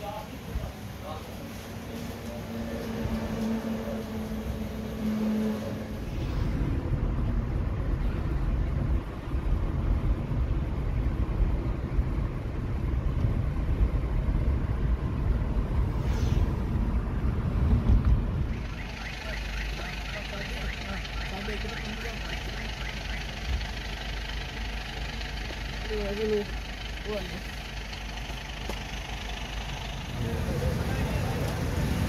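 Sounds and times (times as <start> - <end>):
car cabin road and engine rumble: 0.0 - 32.0.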